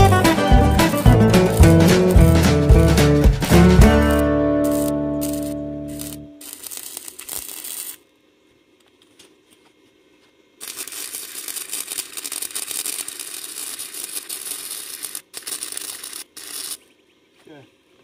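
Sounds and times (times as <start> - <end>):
welding arc crackling: 0.0 - 8.2, 10.6 - 16.9.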